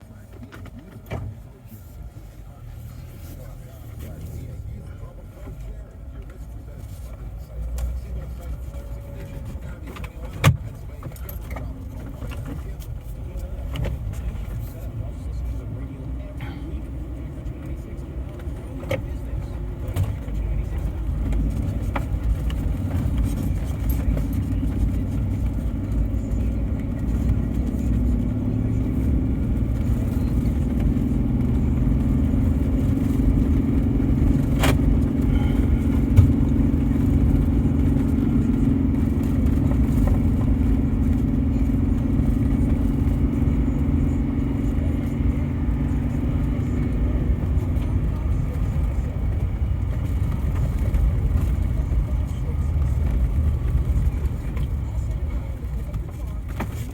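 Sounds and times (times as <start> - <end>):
engine rumble: 0.0 - 56.9.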